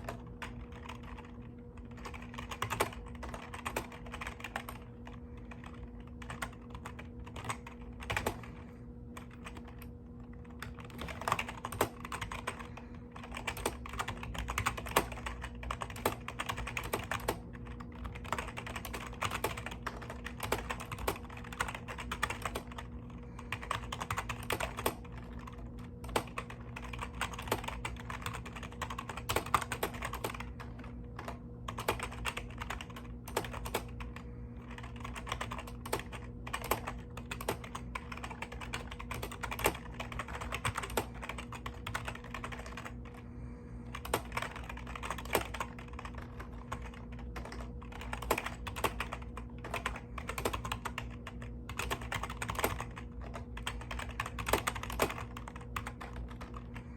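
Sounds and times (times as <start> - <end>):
mechanical keyboard typing: 0.0 - 43.2, 43.9 - 56.8
low electrical hum: 0.0 - 56.9.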